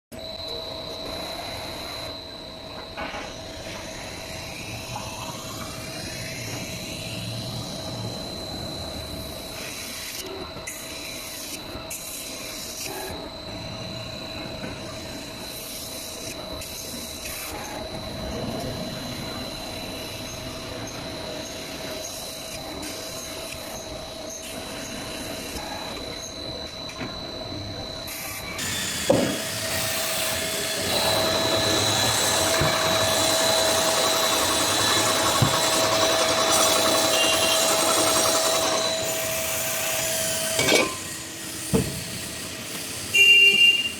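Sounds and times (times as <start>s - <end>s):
spinning machine high whine: 0.1s - 43.9s.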